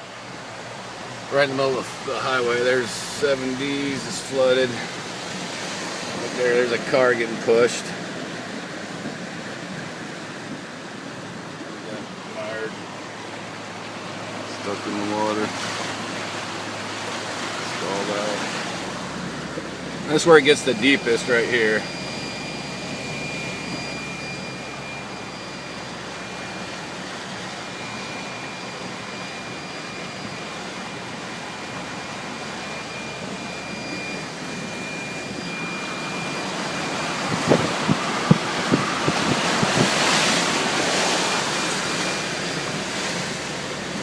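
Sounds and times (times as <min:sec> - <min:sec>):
faint high whine: 0:00.0 - 0:44.0
vehicle driving through water: 0:00.0 - 0:44.0.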